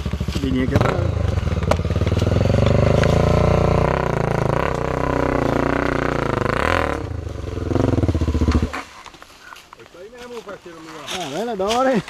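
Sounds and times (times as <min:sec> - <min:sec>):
motorcycle engine climbing: 0:00.0 - 0:12.0.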